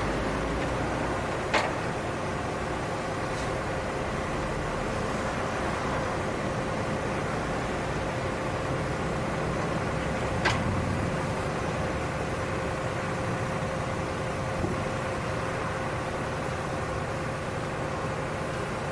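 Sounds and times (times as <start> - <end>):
farm machine engine running: 0.0 - 18.9.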